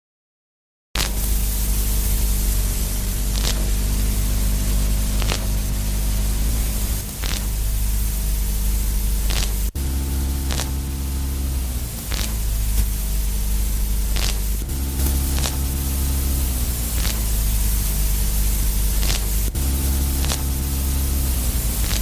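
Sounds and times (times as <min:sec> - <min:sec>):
low hum of held tones: 0:01.0 - 0:22.0
static hiss: 0:01.0 - 0:22.0.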